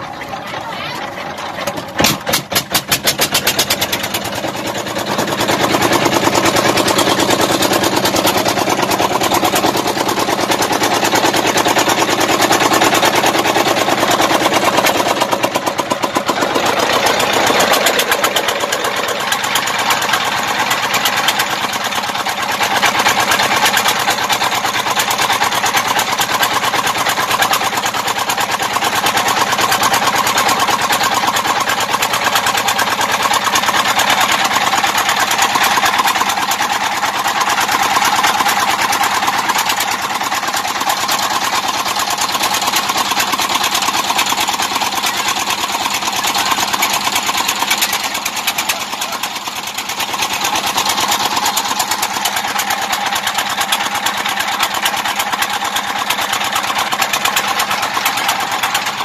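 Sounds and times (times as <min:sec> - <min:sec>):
small diesel engine running: 0:00.0 - 0:59.0.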